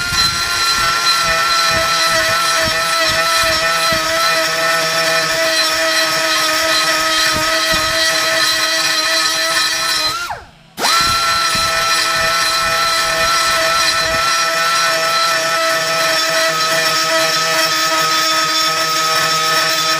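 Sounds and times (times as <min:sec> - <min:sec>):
electric angle grinder running: 0:00.0 - 0:19.9.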